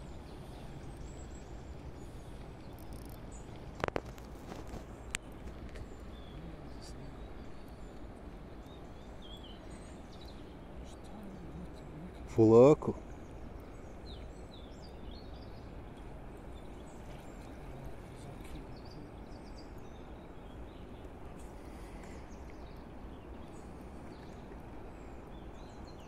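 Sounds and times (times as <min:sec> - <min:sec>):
low outdoor hiss: 0:00.0 - 0:26.0.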